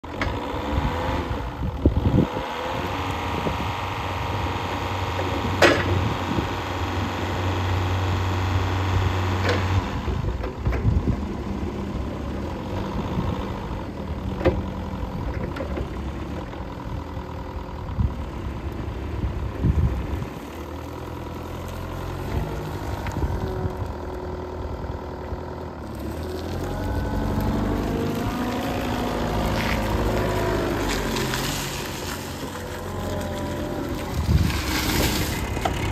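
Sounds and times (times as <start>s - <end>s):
forklift engine revving: 0.0s - 35.9s.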